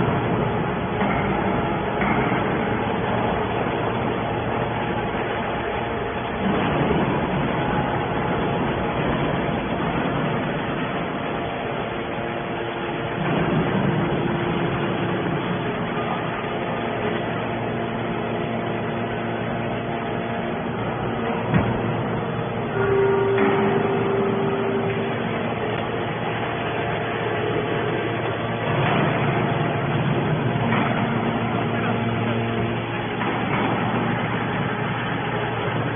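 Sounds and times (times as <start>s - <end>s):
faint hum: 0.0s - 35.9s
hydraulic baler running: 0.0s - 35.9s.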